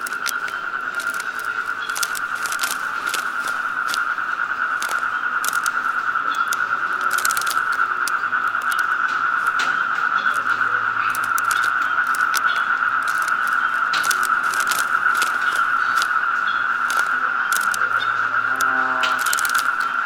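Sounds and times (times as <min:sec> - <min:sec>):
footsteps crunching on dry leaves: 0:00.0 - 0:17.9
high-pitched insect drone: 0:00.0 - 0:20.0.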